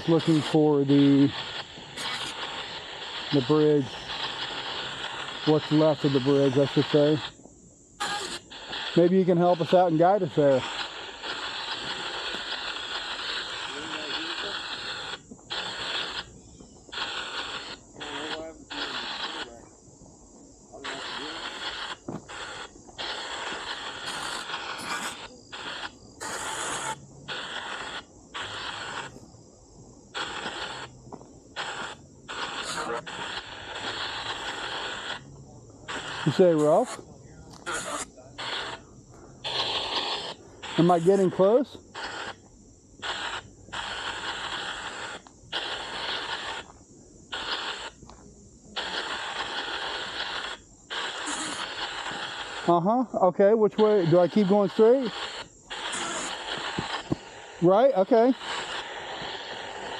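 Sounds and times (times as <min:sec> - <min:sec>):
bursts of radio static: 0:00.0 - 0:59.9
steady high whine: 0:00.0 - 0:59.9.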